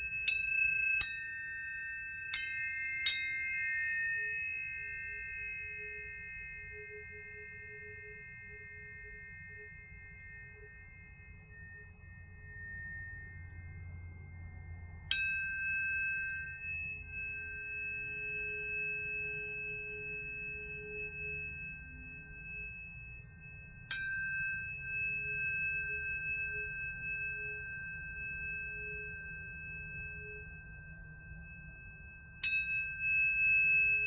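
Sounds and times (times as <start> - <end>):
tuning fork metallic clink: 0.0 - 34.0
tuning forks ringing pure tones: 0.0 - 34.0.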